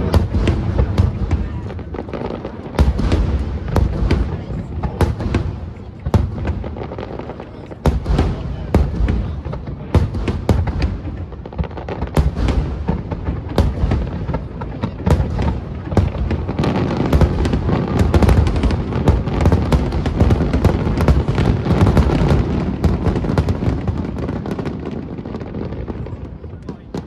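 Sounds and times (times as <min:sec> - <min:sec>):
fireworks booming and crackling: 0:00.0 - 0:27.0.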